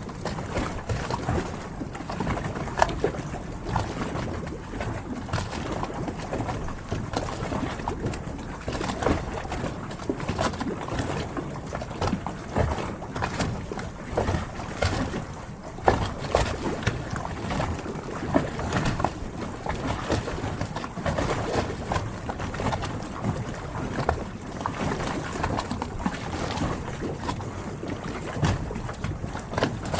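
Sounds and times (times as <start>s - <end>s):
water lapping against hulls: 0.0s - 29.9s.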